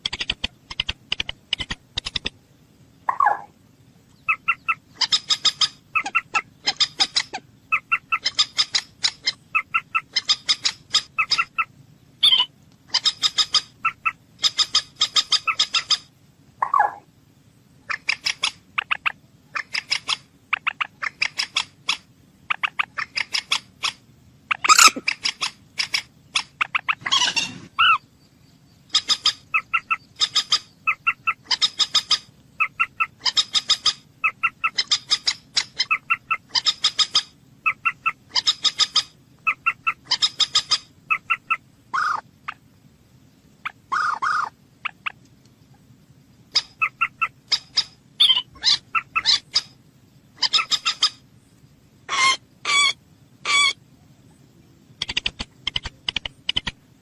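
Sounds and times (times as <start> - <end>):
moorhen calling: 3.0 - 3.5, 4.1 - 17.0, 17.8 - 42.6, 43.6 - 45.3, 46.5 - 51.3, 52.0 - 53.8.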